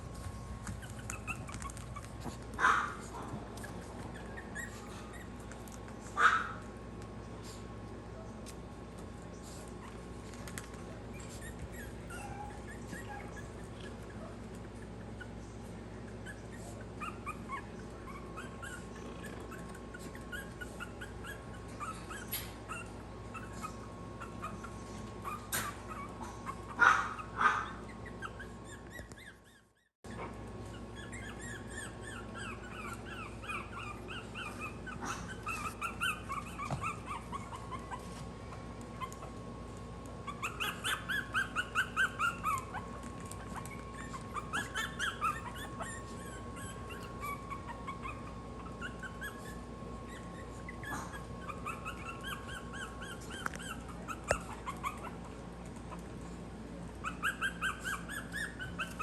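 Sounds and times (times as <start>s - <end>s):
puppies whimpering and squeaking: 0.0s - 6.4s, 9.0s - 56.3s, 56.9s - 59.0s
puppy yelps: 0.8s - 5.5s, 6.2s - 6.6s, 11.1s - 15.4s, 16.0s - 38.1s, 40.2s - 55.4s, 57.0s - 59.0s.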